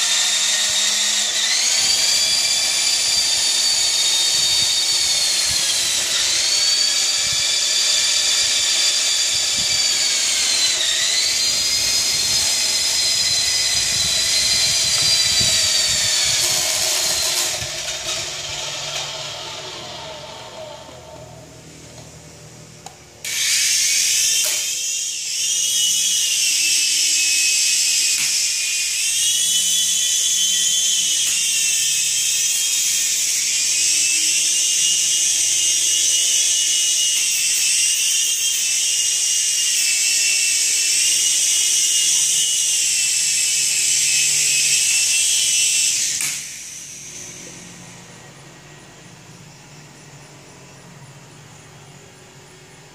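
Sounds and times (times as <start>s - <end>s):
rc helicopter rotor whining: 0.0s - 52.9s.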